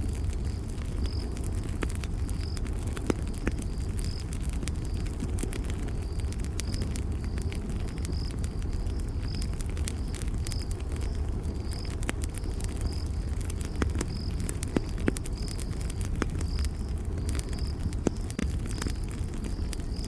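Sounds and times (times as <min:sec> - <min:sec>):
campfire rumble: 0:00.0 - 0:20.0
wood crackling and popping: 0:00.0 - 0:20.0
cricket chirping: 0:00.1 - 0:20.0.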